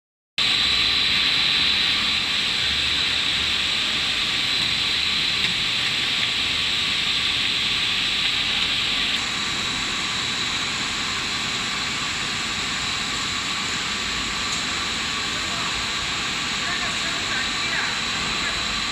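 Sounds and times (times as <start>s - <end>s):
high-pitched machine whine: 0.4s - 18.9s
machine hiss: 0.4s - 18.9s.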